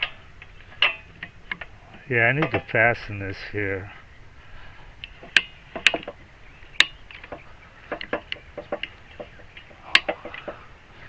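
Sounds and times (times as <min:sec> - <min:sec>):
sharp clicks and knocks of hard parts: 0:00.0 - 0:03.2, 0:05.0 - 0:10.7.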